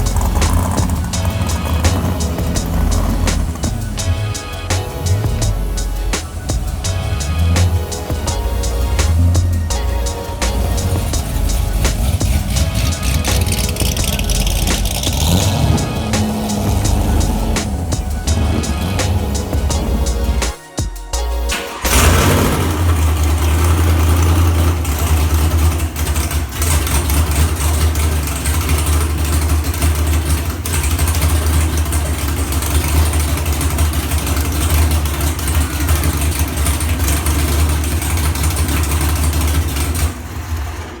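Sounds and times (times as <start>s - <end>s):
car engine idling choppily: 0.0s - 20.6s, 21.3s - 41.0s.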